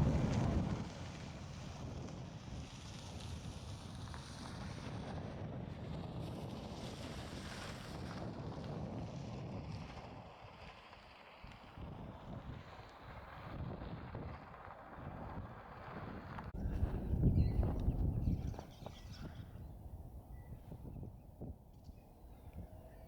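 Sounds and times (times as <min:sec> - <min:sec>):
storm wind buffeting microphone: 0:00.0 - 0:10.3, 0:11.7 - 0:23.0.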